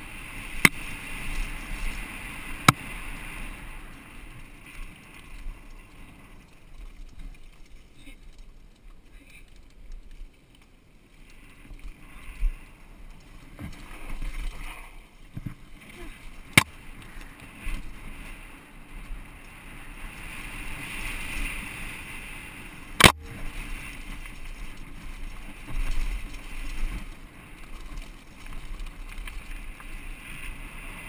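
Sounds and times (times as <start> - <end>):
bike rattling: 0.0 - 31.0
tyres rolling over dirt and leaves: 0.0 - 31.0.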